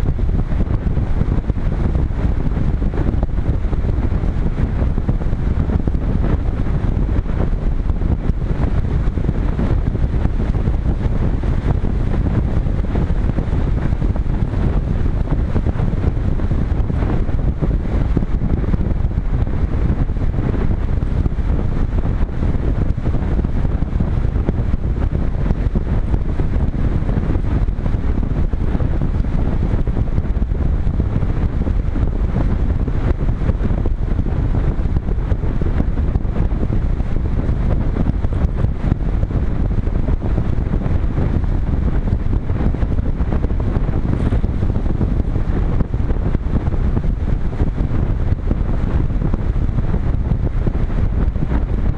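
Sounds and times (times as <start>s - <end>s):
wind rush over microphone: 0.0s - 51.9s.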